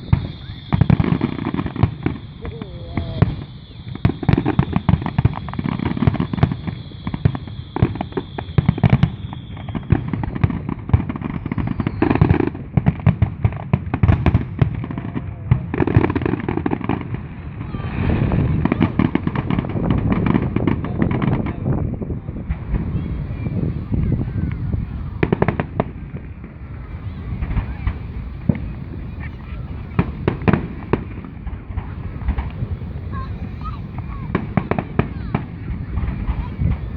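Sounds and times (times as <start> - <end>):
high firework whistle: 0.0 - 12.8, 14.2 - 36.9
fireworks bangs and crackling: 0.0 - 36.9.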